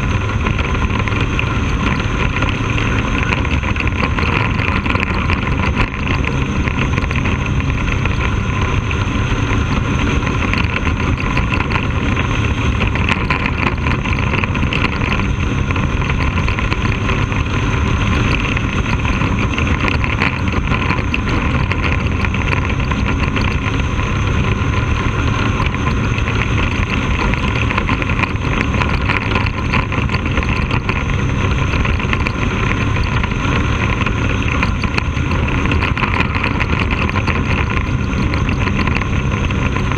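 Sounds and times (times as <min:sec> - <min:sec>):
race car engine running: 0:00.0 - 0:39.9
wind noise: 0:00.0 - 0:39.9.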